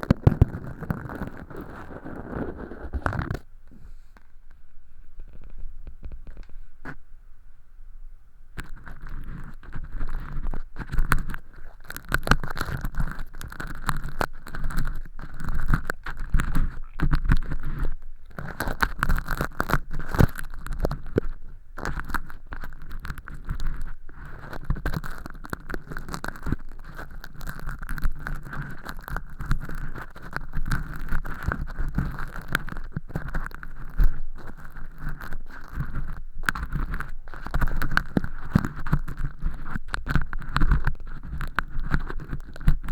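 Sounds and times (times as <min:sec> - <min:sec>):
earpick scraping scratchy clicks: 0:00.0 - 0:03.5, 0:08.6 - 0:42.9.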